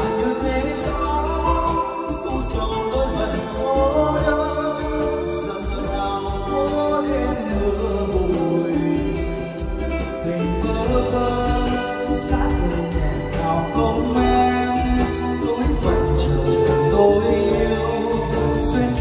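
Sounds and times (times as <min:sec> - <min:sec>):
backing track music: 0:00.0 - 0:19.0
man singing karaoke: 0:00.0 - 0:19.0
steady bass line: 0:00.0 - 0:19.0.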